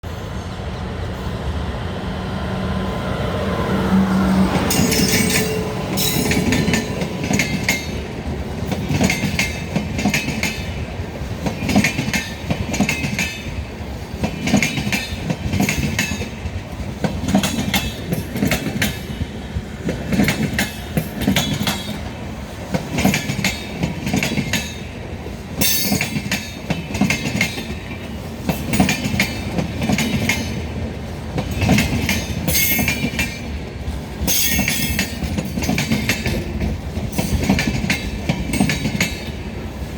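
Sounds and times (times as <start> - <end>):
train wheels clattering over rail joints: 4.5 - 39.9.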